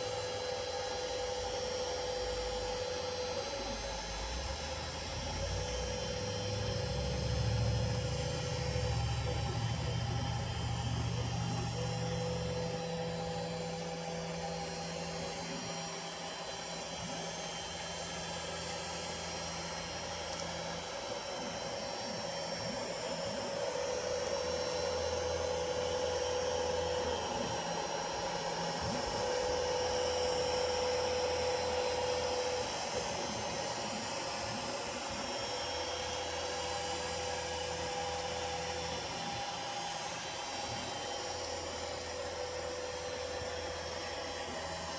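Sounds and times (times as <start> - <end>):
continuous mechanical hum: 0.0 - 44.9
stepper motor whine: 0.0 - 44.9.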